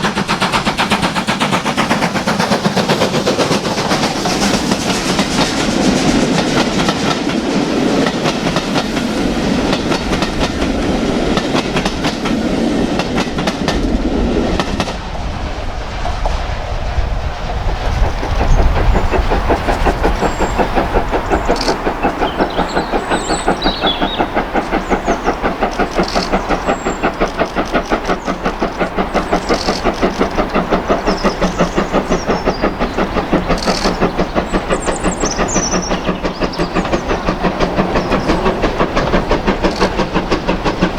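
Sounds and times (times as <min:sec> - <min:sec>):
rhythmic train beat: 0:00.0 - 0:40.9
train running past: 0:00.0 - 0:40.9.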